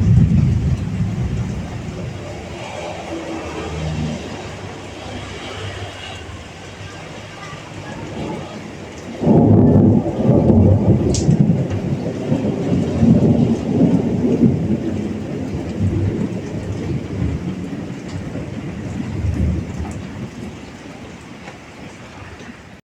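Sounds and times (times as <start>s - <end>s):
thunder rolling and rumbling: 0.0s - 22.7s
heavy rain: 0.0s - 22.8s.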